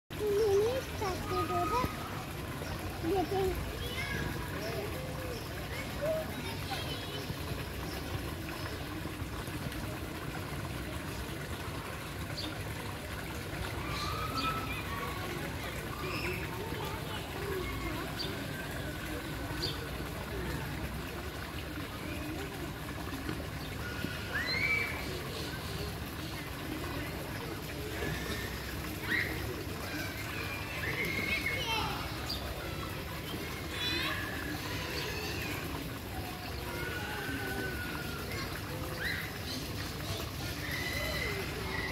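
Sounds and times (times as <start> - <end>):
water trickling into pond: 0.1 - 41.9
distant indistinct voices: 0.2 - 41.9.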